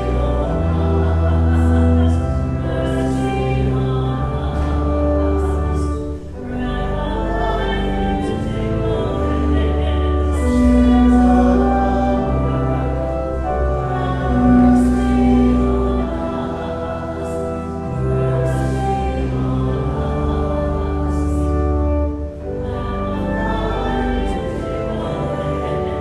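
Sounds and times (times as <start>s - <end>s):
singing: 0.0s - 21.8s, 22.5s - 26.0s
church organ chords: 0.0s - 26.0s.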